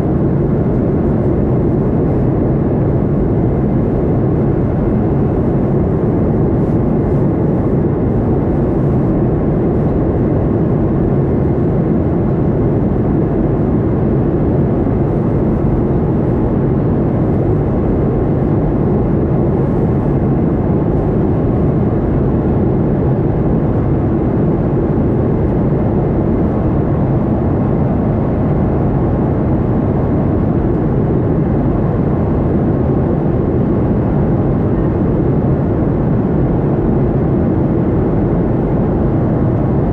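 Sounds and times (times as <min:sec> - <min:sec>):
airliner engines droning: 0:00.0 - 0:39.9.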